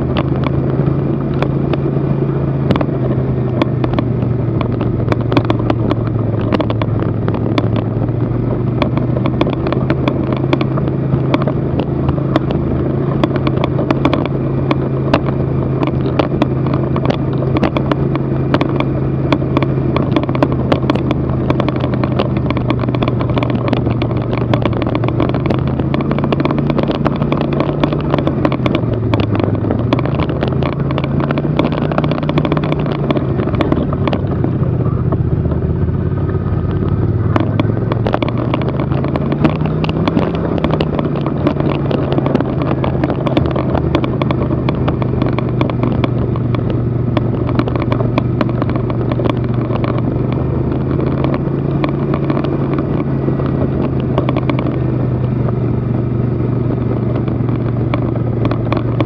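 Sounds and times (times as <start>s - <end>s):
rattling clicks: 0.0s - 59.0s
snowmobile engine running: 0.0s - 59.0s.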